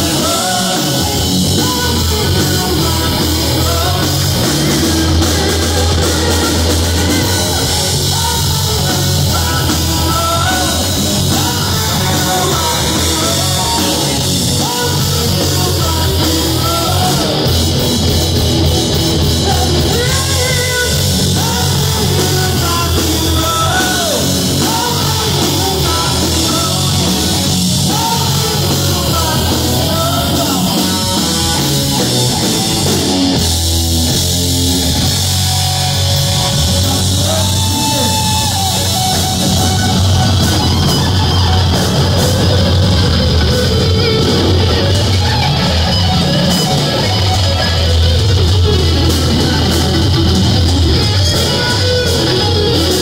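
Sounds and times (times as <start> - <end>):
man singing: 0.0 - 33.4, 35.0 - 45.9
drum kit: 0.0 - 53.0
electric guitar: 0.0 - 53.0.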